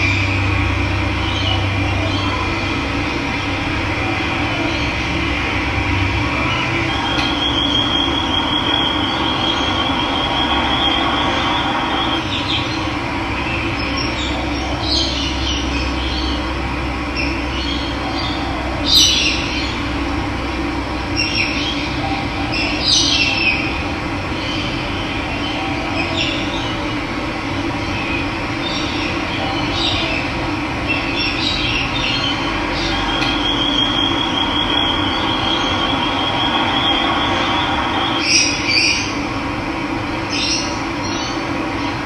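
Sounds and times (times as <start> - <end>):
birds calling: 0.0 - 20.2, 21.0 - 39.3.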